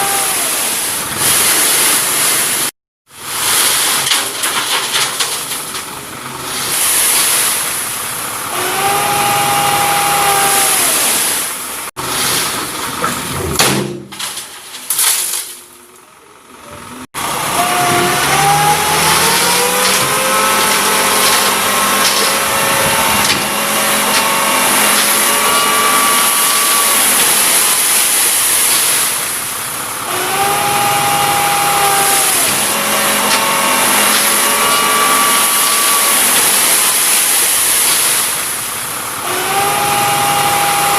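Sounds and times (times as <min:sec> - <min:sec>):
diesel truck engine revving: 0:05.4 - 0:13.6, 0:16.2 - 0:40.9.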